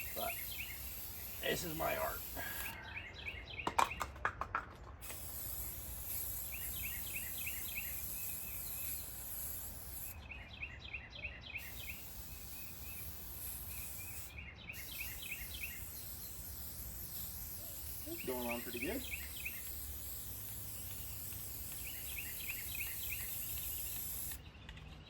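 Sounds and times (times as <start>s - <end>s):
insect hiss: 0.0s - 2.8s, 5.0s - 10.2s, 11.6s - 24.4s
rapid repeated chirping: 0.0s - 4.1s, 5.0s - 10.6s, 11.5s - 24.4s.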